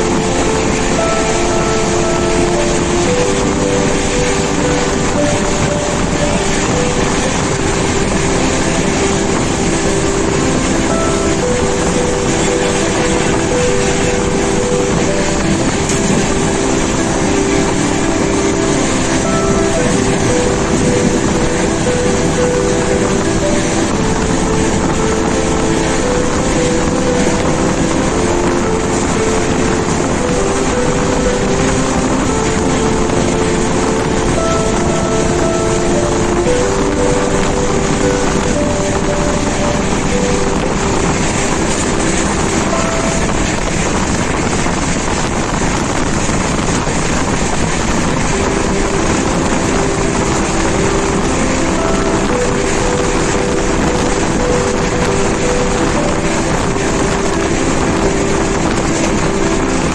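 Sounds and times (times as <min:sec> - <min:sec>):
humming tones: 0:00.0 - 0:59.9
train running noise: 0:00.0 - 0:59.9
wind buffeting microphone: 0:00.0 - 0:59.9.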